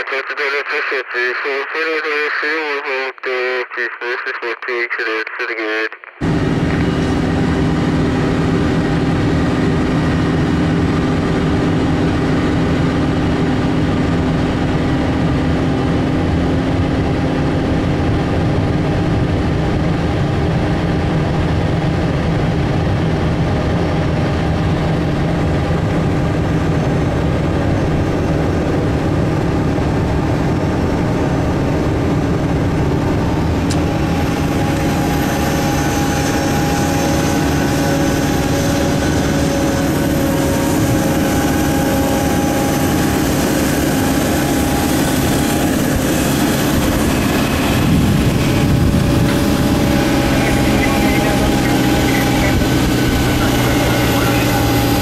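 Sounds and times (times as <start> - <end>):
vehicle engine humming: 6.2 - 55.0.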